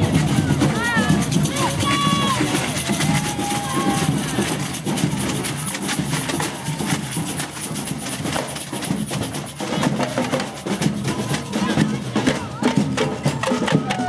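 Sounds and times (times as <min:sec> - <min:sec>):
percussion band music: 0:00.0 - 0:14.0.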